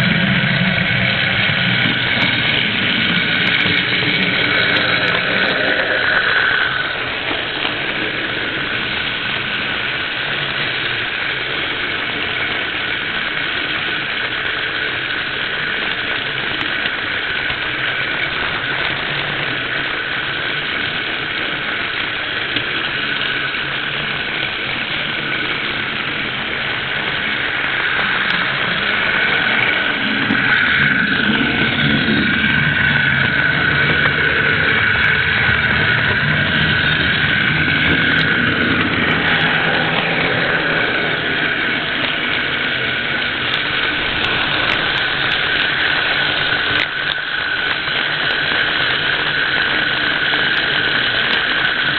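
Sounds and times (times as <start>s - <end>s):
motor and gear whine: 0.0s - 51.9s
wheel rumble: 0.0s - 51.9s.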